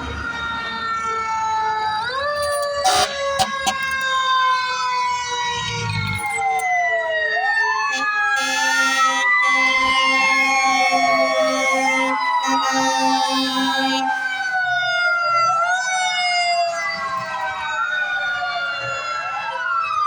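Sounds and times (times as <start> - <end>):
fire truck sirens wailing: 0.0 - 20.0.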